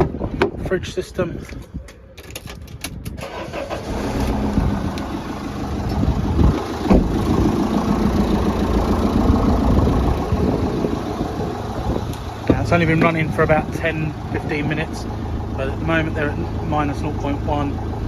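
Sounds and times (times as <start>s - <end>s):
diesel van engine idling: 3.2s - 18.0s.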